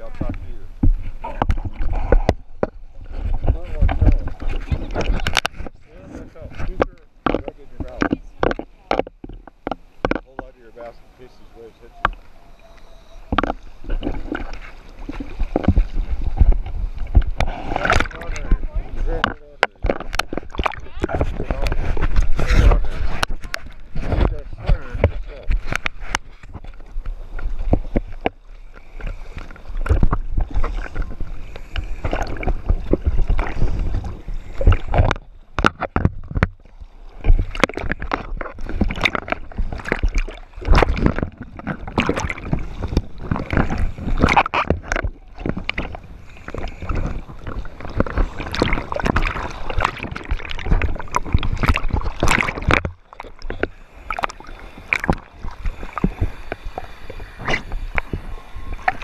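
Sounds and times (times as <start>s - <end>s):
water sloshing against camera: 0.0s - 59.0s.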